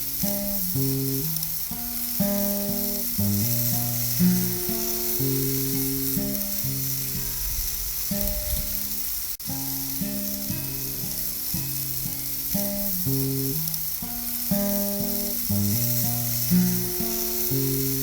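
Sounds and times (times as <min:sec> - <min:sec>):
music with low plucked notes: 0:00.0 - 0:07.3, 0:09.4 - 0:18.0
food sizzling on a grill: 0:00.0 - 0:18.0.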